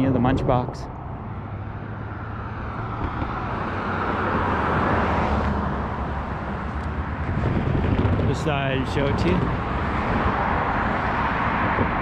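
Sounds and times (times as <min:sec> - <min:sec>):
low rumble of road noise: 0:00.0 - 0:12.0
car passing by: 0:00.5 - 0:12.0.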